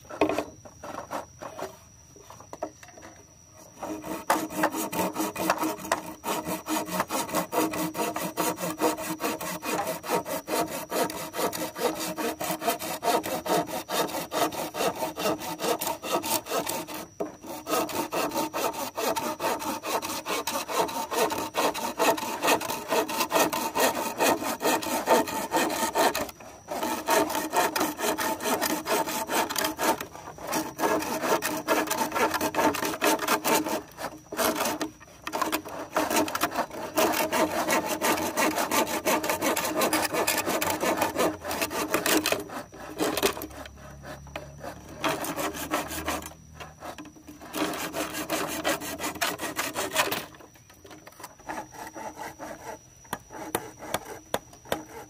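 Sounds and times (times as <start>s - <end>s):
hand saw cutting bamboo: 0.1s - 1.7s, 3.8s - 50.5s, 51.1s - 55.0s.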